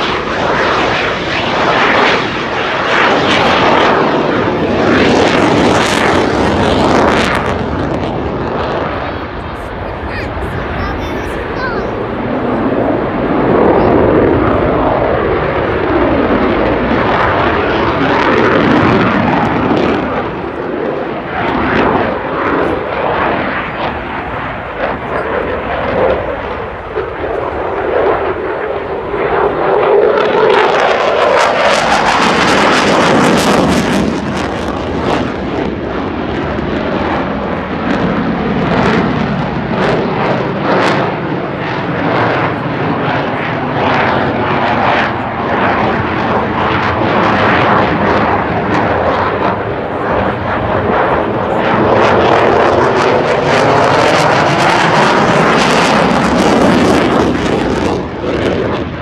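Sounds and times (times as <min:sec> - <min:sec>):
fighter jet engine roaring: 0:00.0 - 0:59.0.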